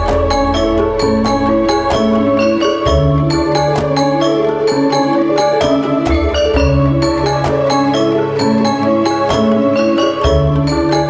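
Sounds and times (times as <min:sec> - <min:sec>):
mallet percussion notes: 0:00.0 - 0:11.0.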